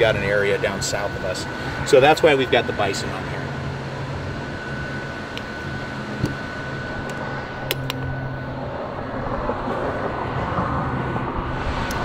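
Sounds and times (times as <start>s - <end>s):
low mechanical hum: 0.0s - 12.0s
thin high whine: 0.0s - 12.0s.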